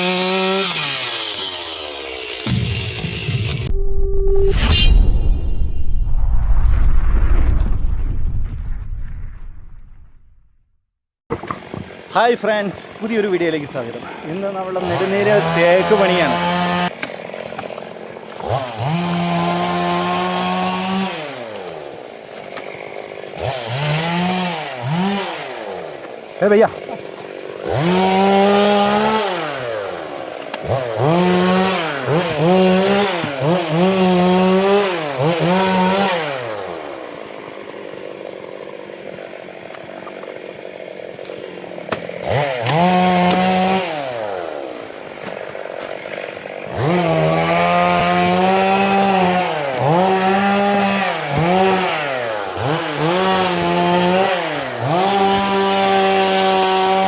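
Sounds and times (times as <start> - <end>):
chainsaw cutting wood: 0.0 - 3.7, 11.3 - 57.0.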